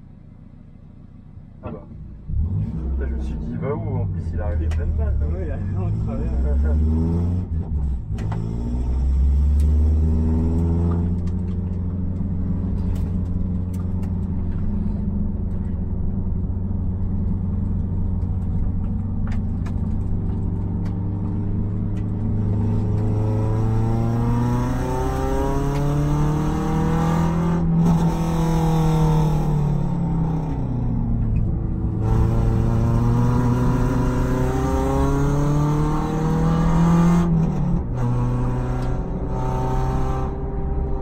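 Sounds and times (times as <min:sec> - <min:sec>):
car engine from inside cabin: 0:00.0 - 0:41.0.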